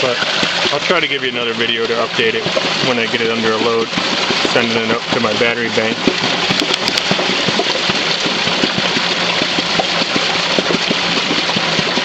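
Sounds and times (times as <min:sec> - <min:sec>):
rapid irregular knocking of drive: 0:00.0 - 0:12.0
rushing water: 0:00.0 - 0:12.0.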